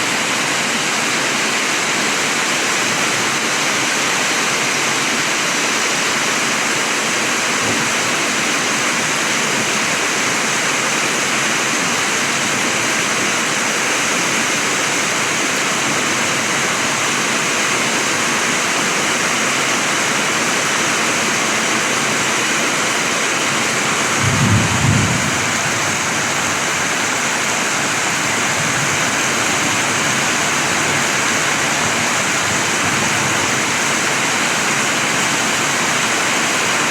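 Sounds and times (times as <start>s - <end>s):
heavy rain: 0.0s - 36.9s.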